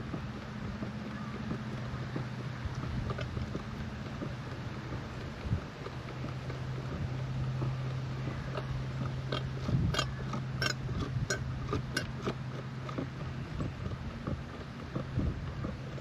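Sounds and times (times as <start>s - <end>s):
hand pump strokes clicking: 0.0s - 16.0s
low steady hum: 0.0s - 16.0s.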